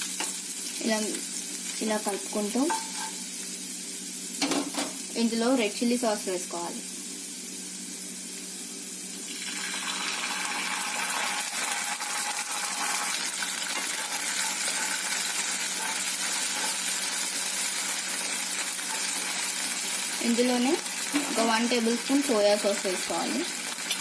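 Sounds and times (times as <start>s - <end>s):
garlic sizzling in hot oil: 0.0s - 24.0s.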